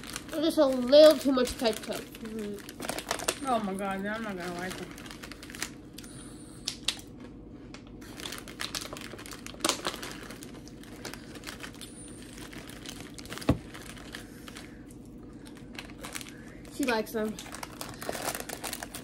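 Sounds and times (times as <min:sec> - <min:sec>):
chip bag crinkling: 0:00.0 - 0:19.0
potato chips being chewed: 0:00.0 - 0:19.0.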